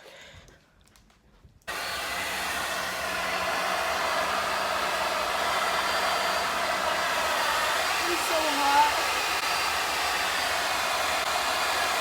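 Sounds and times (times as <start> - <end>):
hair dryer blowing: 1.7 - 12.0.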